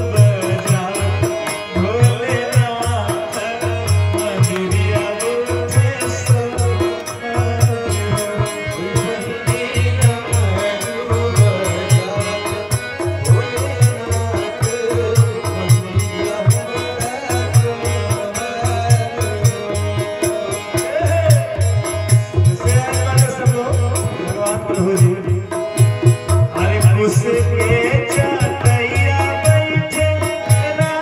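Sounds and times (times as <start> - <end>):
harmonium melody: 0.0 - 31.0
jingling percussion: 0.0 - 31.0.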